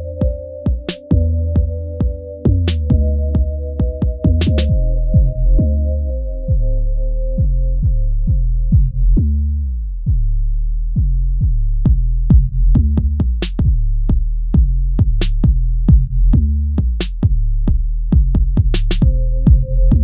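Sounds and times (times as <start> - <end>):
hip hop drum machine beat: 0.0 - 9.2, 11.0 - 20.0.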